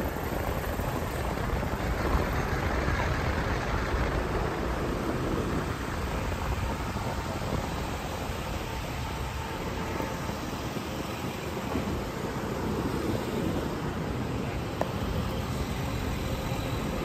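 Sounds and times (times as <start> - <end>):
rumble of vehicles: 0.0 - 17.0.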